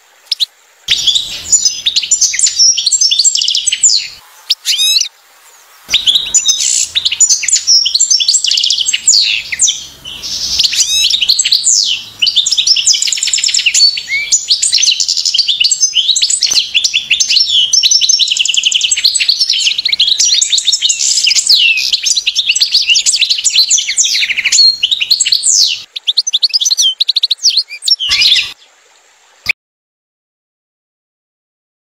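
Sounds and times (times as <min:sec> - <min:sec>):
finch twittering song: 0:00.3 - 0:05.1, 0:05.8 - 0:28.6.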